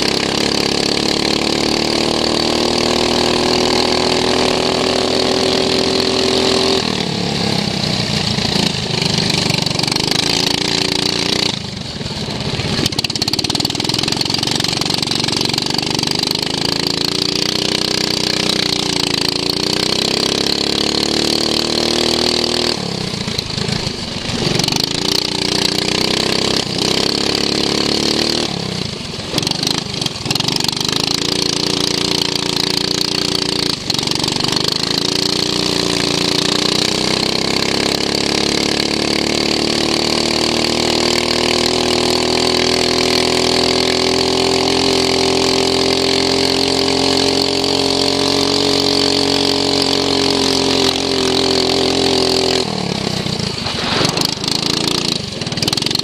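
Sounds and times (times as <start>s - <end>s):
lawn mower engine running hard: 0.0s - 56.0s.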